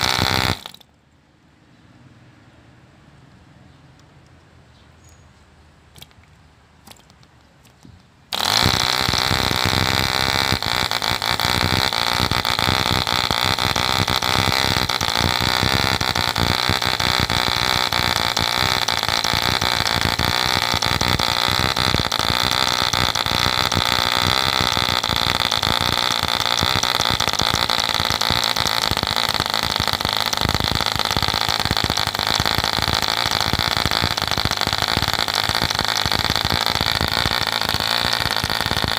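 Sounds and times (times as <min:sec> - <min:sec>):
model engine high-pitched buzz: 0:00.0 - 0:00.9, 0:08.3 - 0:38.9.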